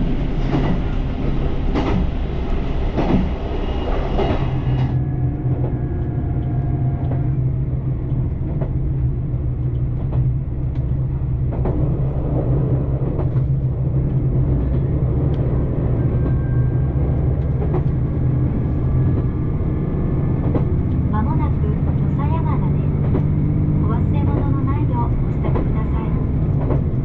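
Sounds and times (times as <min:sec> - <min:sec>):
diesel railcar droning: 0:00.0 - 0:27.0.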